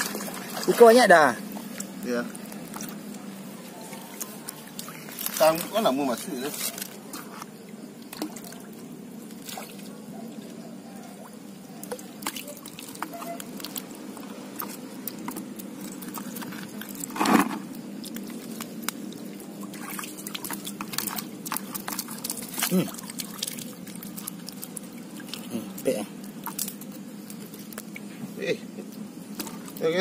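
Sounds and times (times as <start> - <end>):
water drips and trickles: 0.0 - 30.0.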